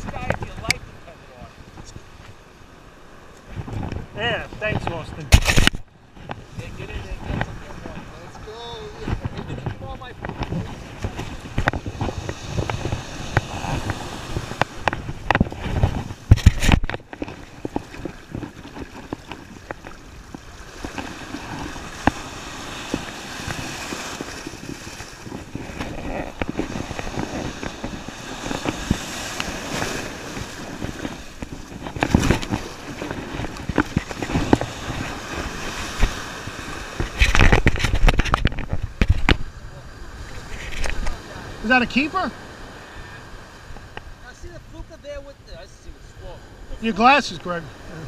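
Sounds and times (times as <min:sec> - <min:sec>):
surf washing and foaming: 0:00.0 - 0:48.0
wind buffeting microphone: 0:03.4 - 0:47.0.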